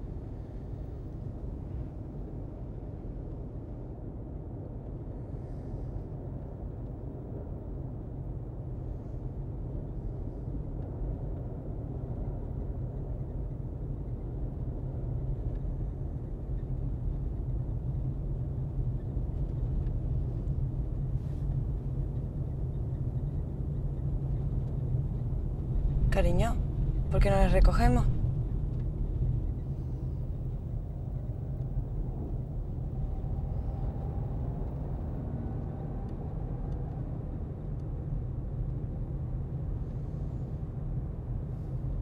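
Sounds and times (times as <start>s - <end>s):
car engine and tyres rumbling: 4.8s - 26.1s, 28.2s - 42.0s.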